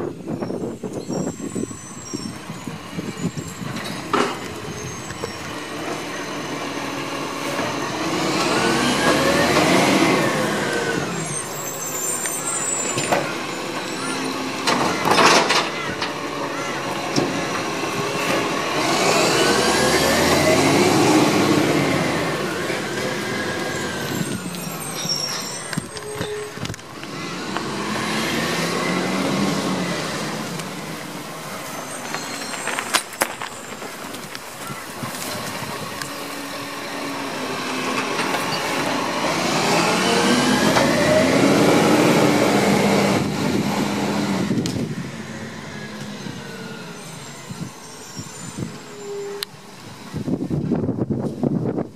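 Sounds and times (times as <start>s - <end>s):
hydraulic arm whine: 0.2s - 51.8s
garbage truck engine revving: 1.2s - 33.0s, 34.8s - 47.8s.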